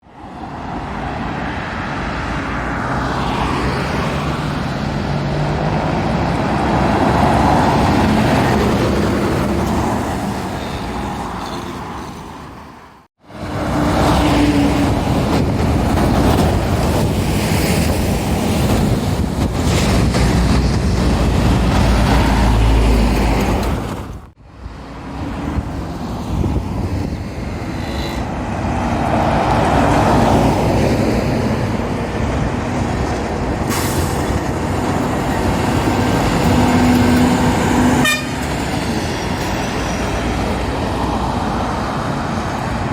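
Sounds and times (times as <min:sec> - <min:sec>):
heavy lorries driving past: 0:00.2 - 0:42.9.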